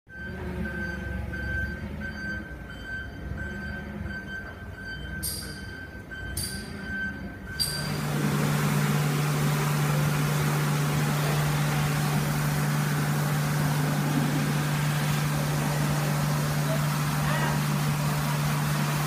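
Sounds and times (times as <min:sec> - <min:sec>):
machinery hum: 0:00.1 - 0:19.0.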